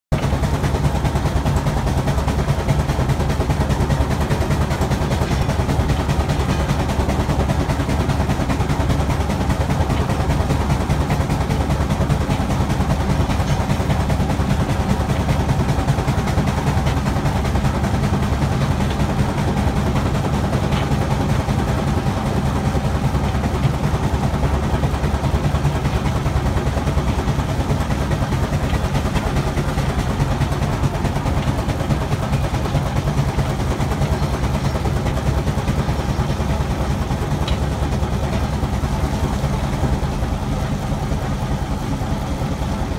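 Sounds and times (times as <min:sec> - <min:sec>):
steam traction engine clattering: 0:00.1 - 0:42.9.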